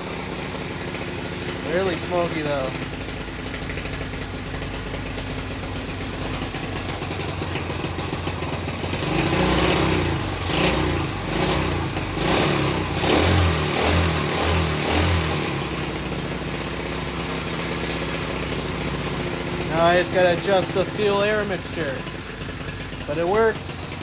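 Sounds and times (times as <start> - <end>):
motorbike engine idling and revving: 0.0 - 24.0.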